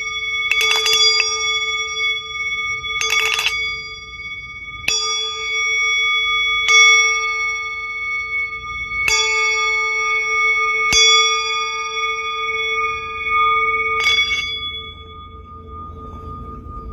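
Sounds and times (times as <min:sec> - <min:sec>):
metal bell ringing: 0:00.0 - 0:15.5.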